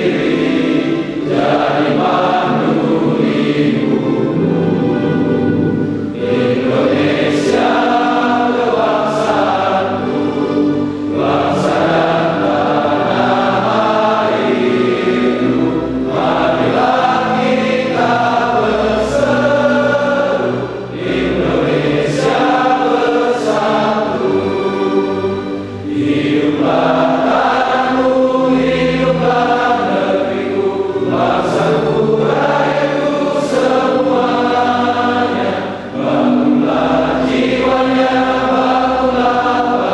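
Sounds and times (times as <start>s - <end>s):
group singing in chorus: 0.0s - 39.9s
music: 0.0s - 39.9s.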